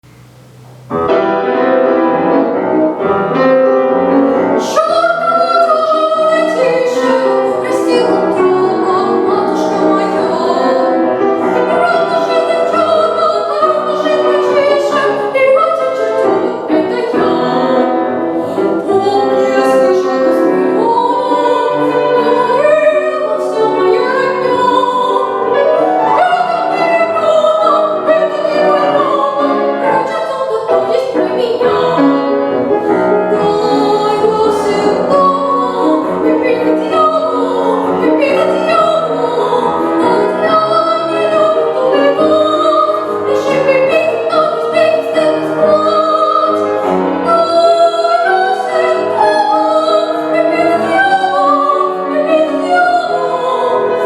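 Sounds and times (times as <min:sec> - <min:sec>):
piano accompaniment: 0:00.0 - 0:54.0
woman singing with vibrato: 0:03.0 - 0:54.0.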